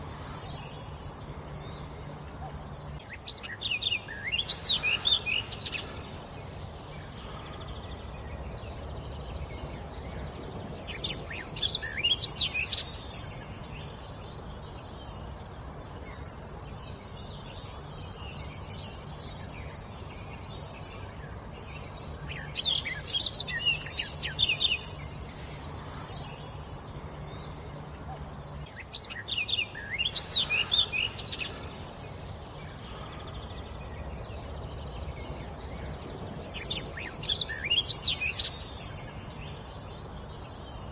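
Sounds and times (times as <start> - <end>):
low background hum: 0.0 - 40.9
songbird chirping: 0.0 - 40.9.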